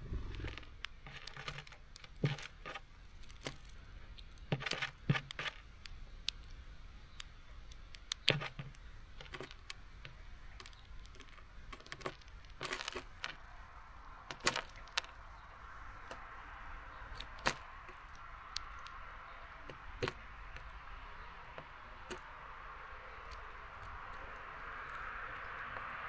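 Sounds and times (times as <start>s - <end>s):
birds pecking at feeder: 0.0s - 26.0s.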